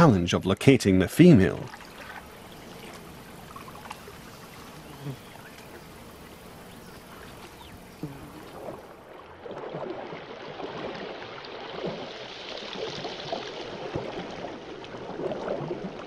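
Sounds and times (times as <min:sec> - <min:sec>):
water gurgling and splashing: 0:01.3 - 0:16.0.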